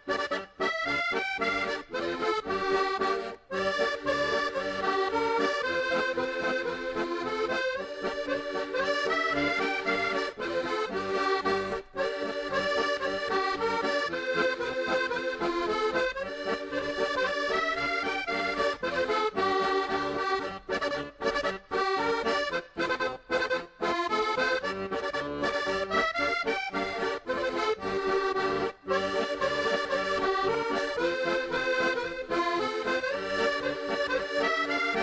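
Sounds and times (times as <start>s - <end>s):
traditional accordion tune: 0.0s - 35.0s.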